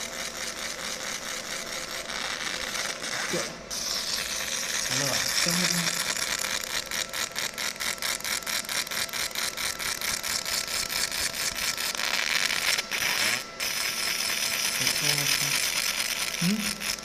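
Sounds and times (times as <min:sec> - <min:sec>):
laser cutting crackling hiss: 0:00.0 - 0:17.0.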